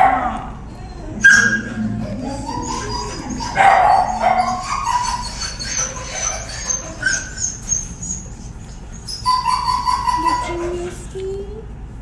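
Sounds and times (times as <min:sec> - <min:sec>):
dog whining and whimpering: 0:00.0 - 0:11.2.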